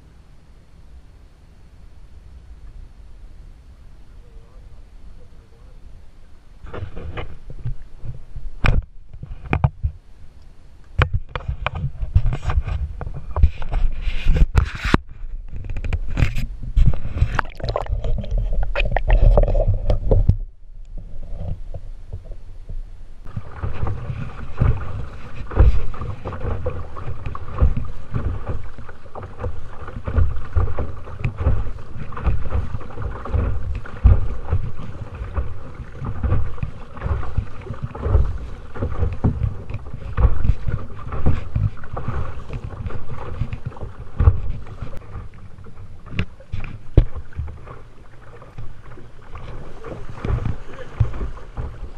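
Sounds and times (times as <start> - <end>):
water splashing against kayak hull: 2.2 - 51.9.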